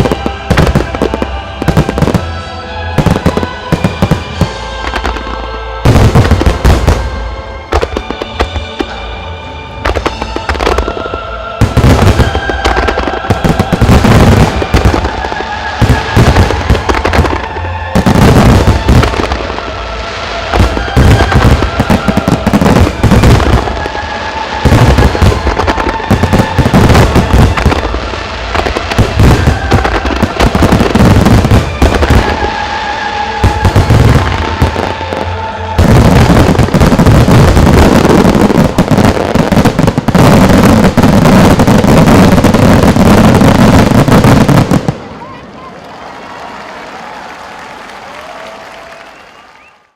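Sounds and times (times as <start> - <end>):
music: 0.0 - 45.2.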